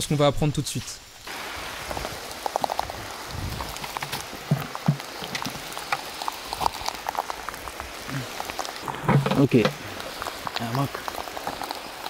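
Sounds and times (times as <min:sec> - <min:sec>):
rain dripping on leaves: 0:00.0 - 0:12.0
tarp rustling: 0:01.3 - 0:12.0.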